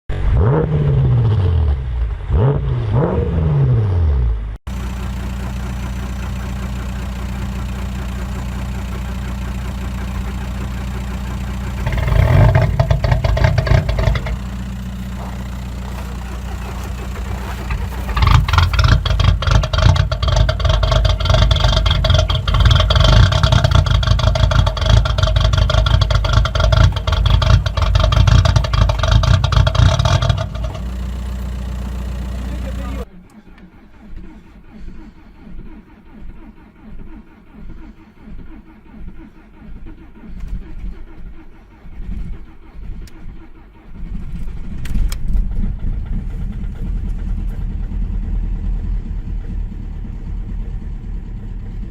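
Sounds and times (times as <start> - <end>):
engine running loud and rough: 0.1 - 51.9
low engine drone: 3.9 - 51.9
diesel engines starting: 4.2 - 51.9.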